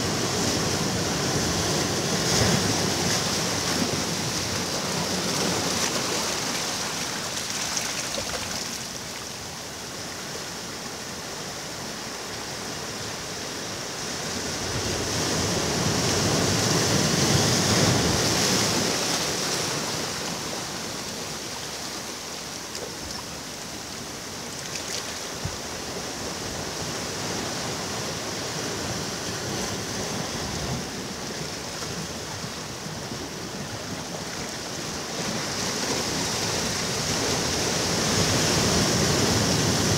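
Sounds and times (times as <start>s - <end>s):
waves washing onto beach: 0.0s - 39.9s.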